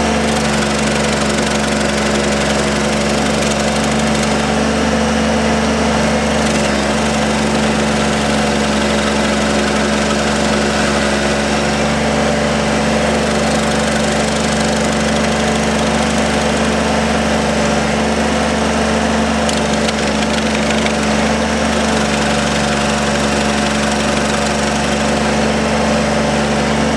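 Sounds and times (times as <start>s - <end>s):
engine running steadily: 0.0s - 26.9s
stump grinder: 0.0s - 26.9s.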